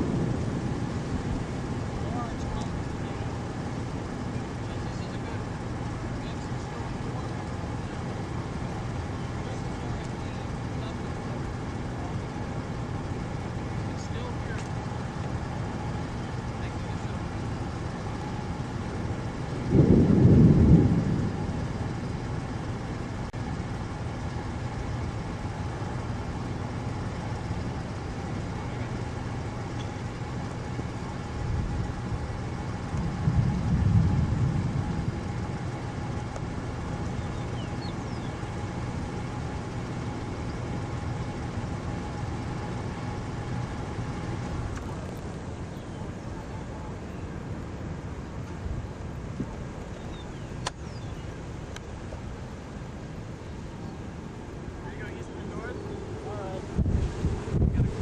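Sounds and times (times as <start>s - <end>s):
low rumbles: 0.0s - 58.0s
tornado roaring: 0.0s - 58.0s.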